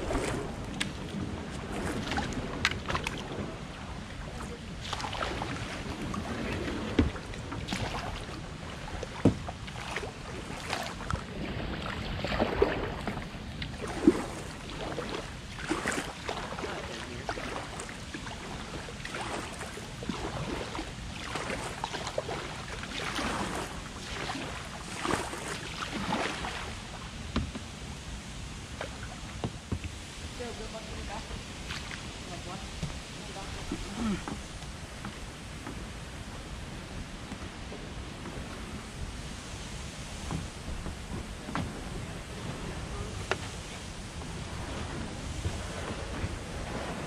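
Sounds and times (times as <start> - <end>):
paddle knocking against hull: 0.0 - 27.8, 28.7 - 30.0, 32.7 - 36.0, 37.2 - 38.8, 40.0 - 47.0
paddle swishing through water: 0.0 - 47.0.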